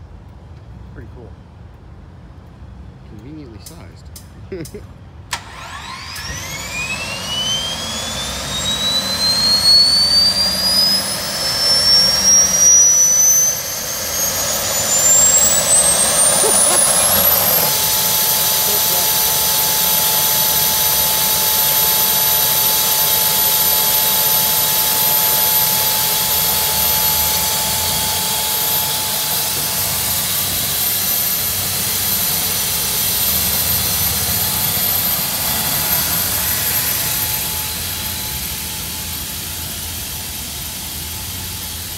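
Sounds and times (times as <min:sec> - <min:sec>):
turbine engine whining: 0:05.2 - 0:41.9.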